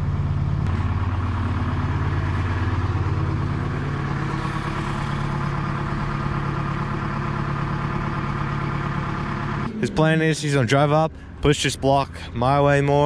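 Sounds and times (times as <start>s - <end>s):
wheel loader engine running: 0.0s - 13.0s.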